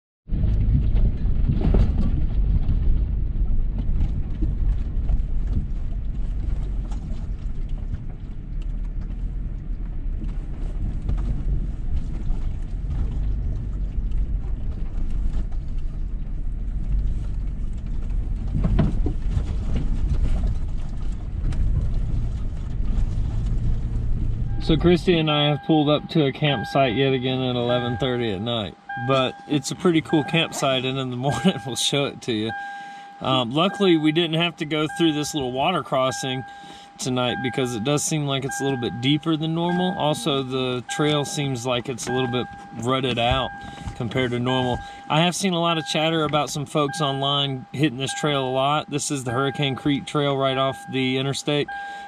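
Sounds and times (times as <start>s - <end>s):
vehicle engine and road rumble: 0.3s - 52.0s.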